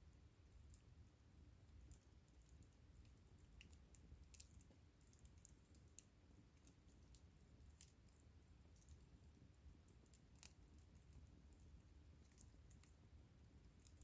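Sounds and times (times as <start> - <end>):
faint wood fire crackling: 0.0 - 14.0.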